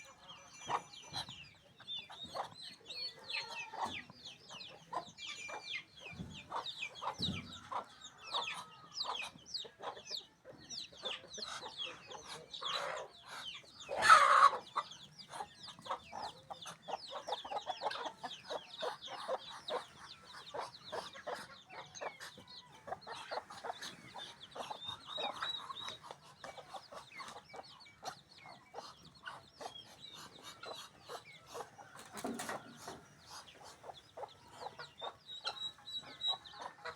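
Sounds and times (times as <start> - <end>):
chickens clucking and chirping: 0.0 - 36.9.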